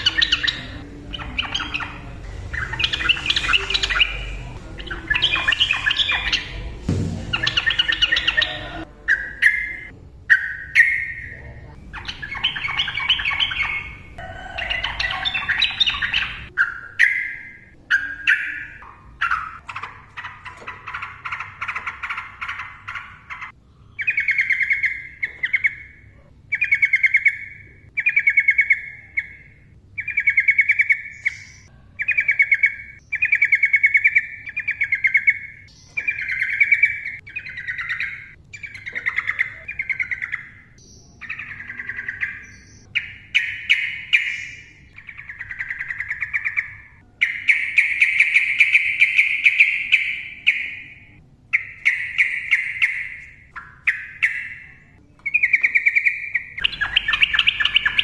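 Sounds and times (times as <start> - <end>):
bird singing rattling trills: 0.0 - 58.0.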